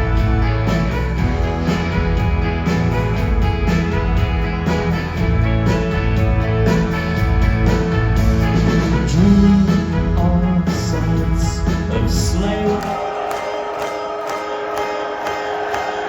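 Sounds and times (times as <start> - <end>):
bass guitar: 0.0 - 13.0
pop-rock band playing: 0.0 - 16.0.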